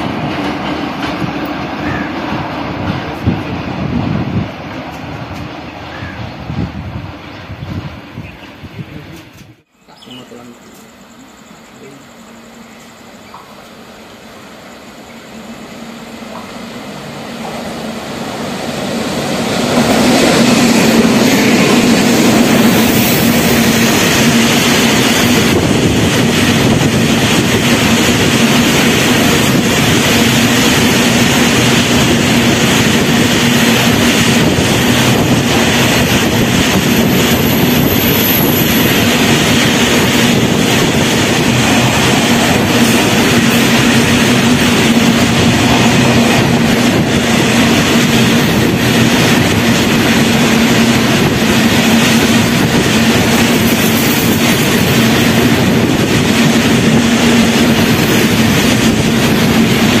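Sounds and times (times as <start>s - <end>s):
train wheels on rails: 0.0s - 60.0s.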